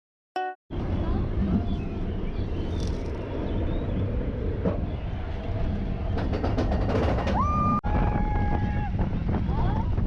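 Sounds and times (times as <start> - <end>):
roller coaster train rumbling: 0.7 - 10.0.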